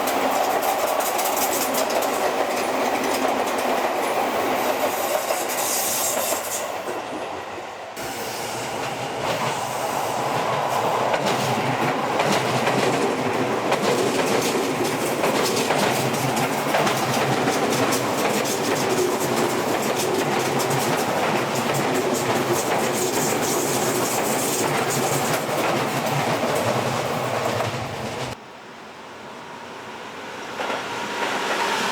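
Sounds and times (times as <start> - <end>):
train wheels clacking on rails: 0.0 - 28.4.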